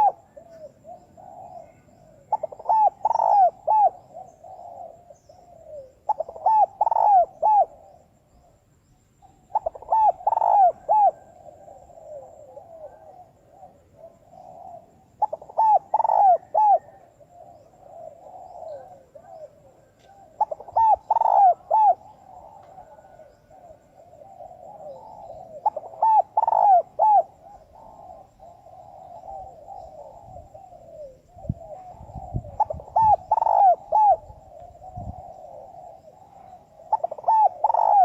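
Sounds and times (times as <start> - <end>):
dove cooing: 0.0 - 8.6, 9.2 - 38.0.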